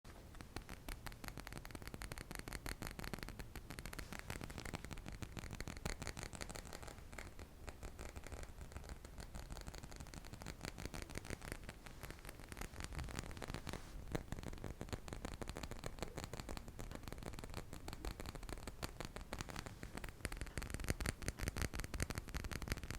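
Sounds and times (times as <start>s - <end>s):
soft tapping and scratching: 0.0s - 22.9s.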